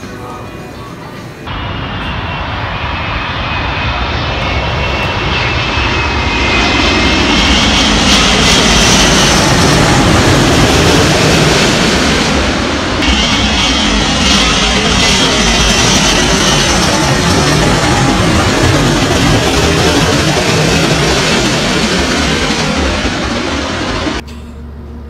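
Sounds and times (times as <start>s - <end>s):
high engine whine: 0.0s - 25.0s
jet engines roaring overhead: 1.4s - 24.2s.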